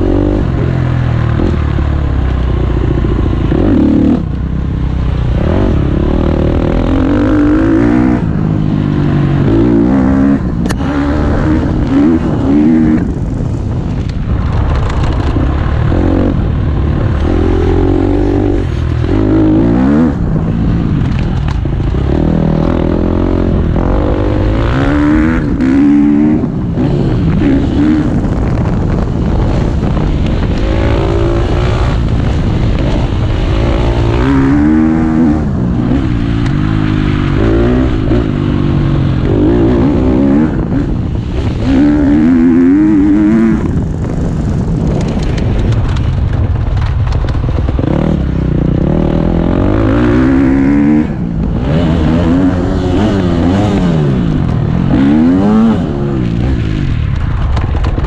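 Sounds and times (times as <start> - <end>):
dirt bike engine revving: 0.0 - 13.8, 14.4 - 45.7, 47.6 - 57.0.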